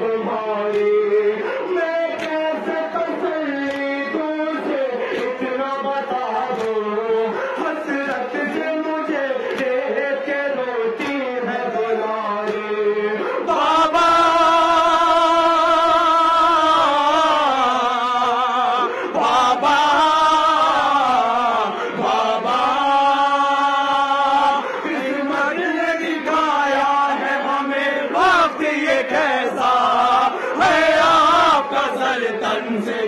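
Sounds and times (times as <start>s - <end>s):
man singing a lament: 0.0s - 33.0s.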